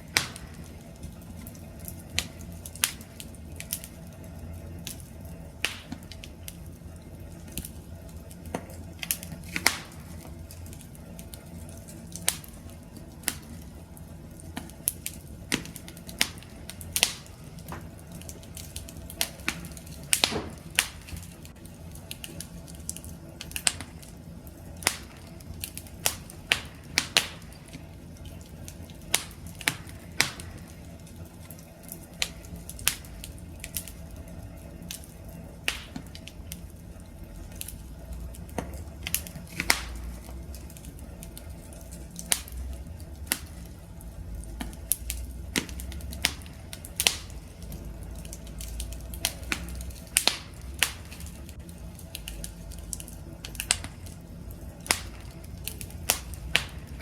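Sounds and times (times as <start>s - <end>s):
wood campfire crackling: 0.0s - 57.0s.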